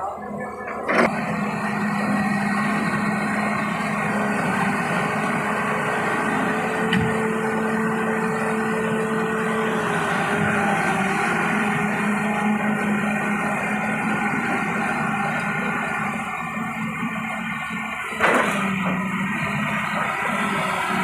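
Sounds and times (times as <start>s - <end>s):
excavator engine droning: 0.0s - 21.0s.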